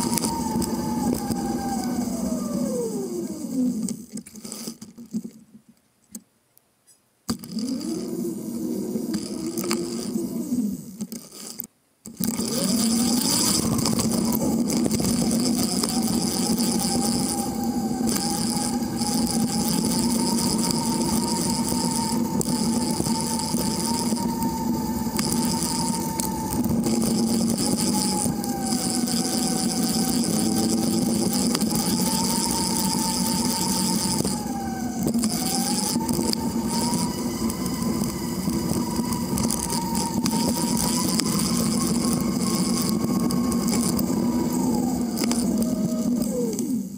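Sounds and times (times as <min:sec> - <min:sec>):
wavering whine: 0:00.0 - 0:04.9, 0:07.3 - 0:46.9.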